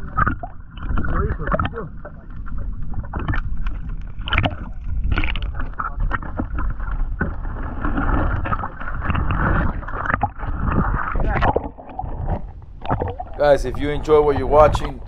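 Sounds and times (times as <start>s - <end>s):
muffled underwater water sloshing: 0.0s - 15.0s.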